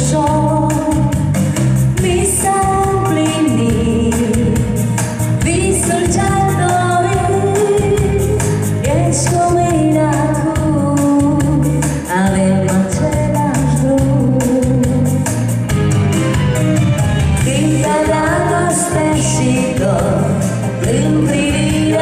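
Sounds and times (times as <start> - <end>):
woman singing into microphone: 0.0 - 15.5, 17.4 - 22.0
amplified band backing: 0.0 - 22.0.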